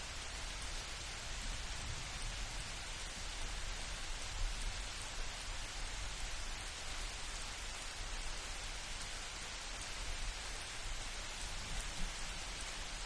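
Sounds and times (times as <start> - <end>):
rain on leaves: 0.0 - 13.0.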